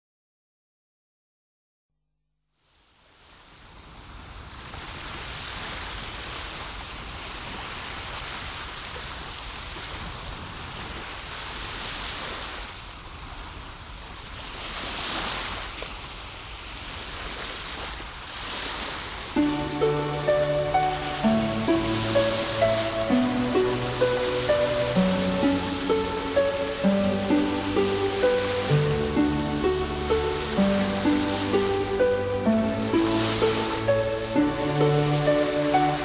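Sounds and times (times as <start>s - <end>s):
ocean surf breaking waves: 3.2s - 36.0s.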